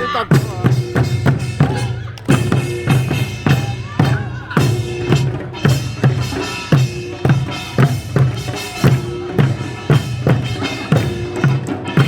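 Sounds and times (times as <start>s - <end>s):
drums beating steadily: 0.0s - 12.0s.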